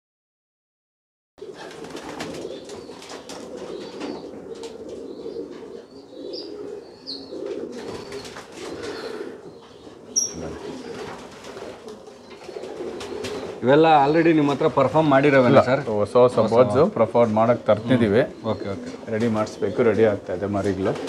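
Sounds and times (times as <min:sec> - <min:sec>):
pigeons cooing: 0:01.4 - 0:21.0.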